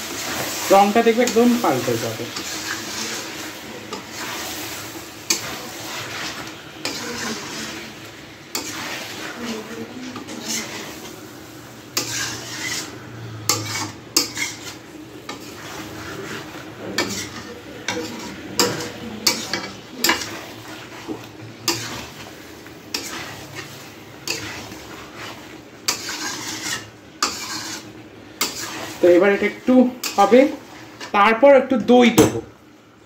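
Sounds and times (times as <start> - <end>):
spatula scraping metal pan: 0.0 - 11.2, 11.9 - 31.2
masala sizzling: 0.0 - 33.0.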